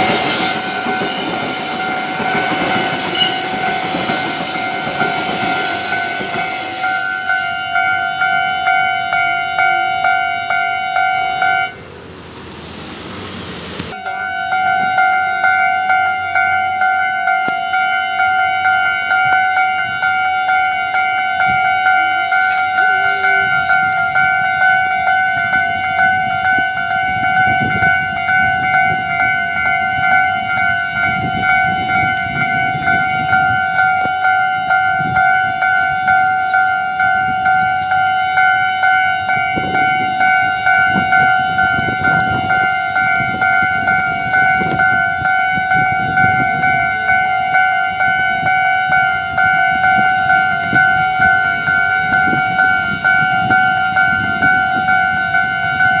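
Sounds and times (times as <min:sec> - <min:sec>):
level crossing warning bell: 0:00.0 - 0:13.0, 0:13.9 - 0:56.0.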